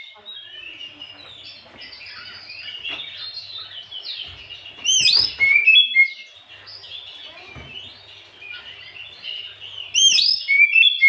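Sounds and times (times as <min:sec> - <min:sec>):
songbird whistles and chirps: 0:00.0 - 0:11.0.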